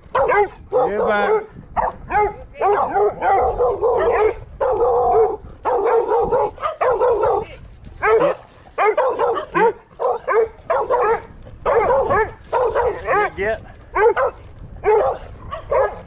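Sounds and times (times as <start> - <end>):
small dogs barking: 0.0 - 16.0.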